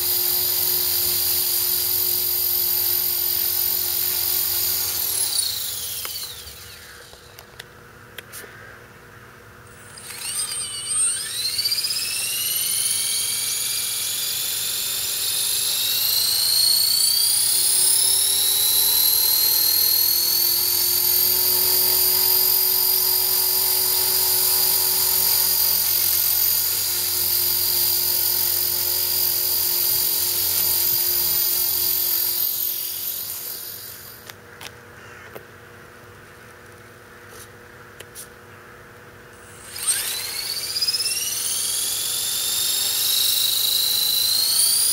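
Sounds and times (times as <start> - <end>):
rc helicopter motor whine: 0.0 - 7.8, 9.6 - 34.4, 39.3 - 44.9.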